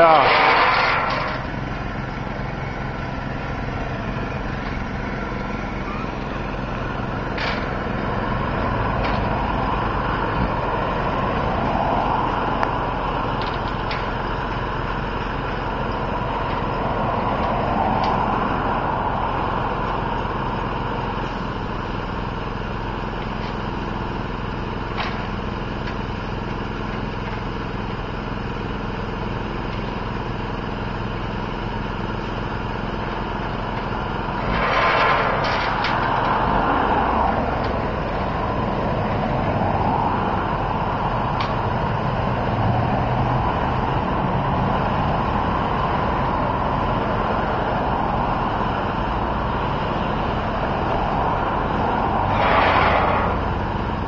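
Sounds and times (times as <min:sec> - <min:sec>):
passing traffic: 0:00.0 - 0:54.0
small engine humming: 0:00.0 - 0:54.0.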